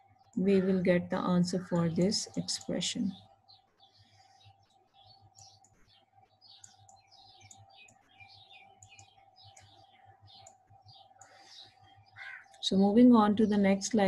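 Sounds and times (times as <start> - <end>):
faint steady hum: 0.0 - 14.0
small birds chirping: 0.1 - 14.0.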